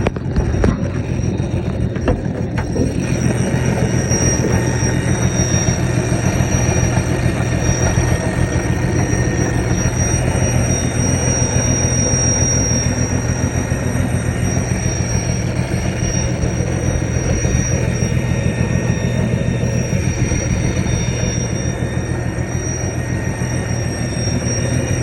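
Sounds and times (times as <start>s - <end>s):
truck engine idling: 0.0s - 25.0s
thin high whistle: 0.3s - 25.0s.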